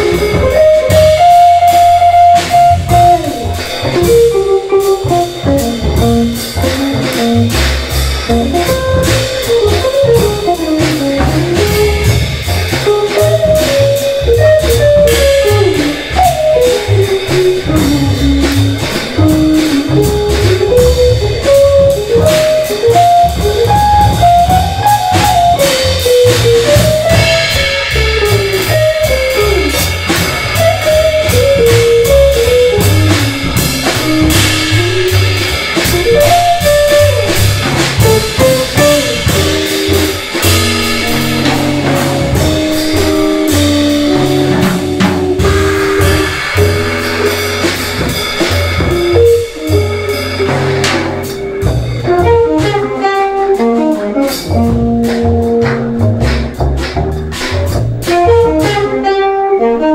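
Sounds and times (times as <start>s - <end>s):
drum kit with cymbals: 0.0s - 59.9s
upright bass: 0.0s - 59.9s.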